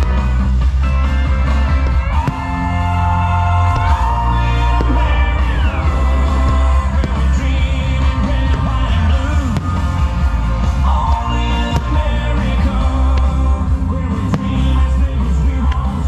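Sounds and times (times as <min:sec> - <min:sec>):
heavy bass: 0:00.0 - 0:16.0
singing voice: 0:02.1 - 0:16.0.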